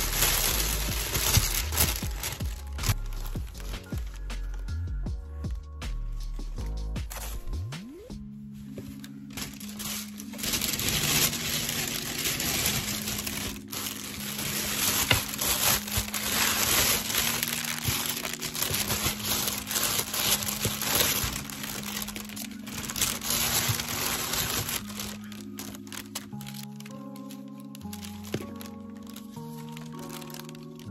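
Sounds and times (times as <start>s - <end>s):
plastic bag crinkling: 0.0s - 4.6s, 9.3s - 30.9s
soft background music: 0.0s - 30.9s.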